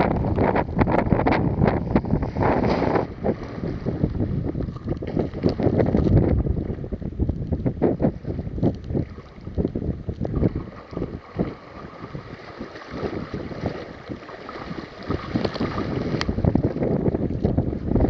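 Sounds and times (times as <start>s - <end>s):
water sloshing around kayak: 0.0s - 18.0s
wind buffeting microphone: 0.0s - 18.0s.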